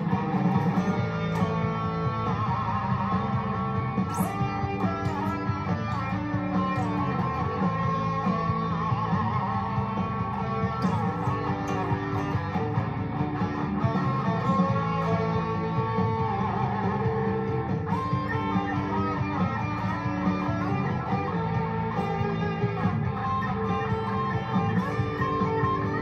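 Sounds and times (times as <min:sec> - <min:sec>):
electric guitar playing: 0:00.0 - 0:26.0.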